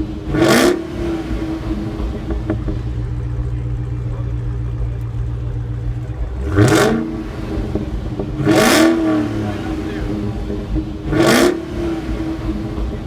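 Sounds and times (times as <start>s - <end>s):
car engines idling and revving: 0.0s - 13.0s.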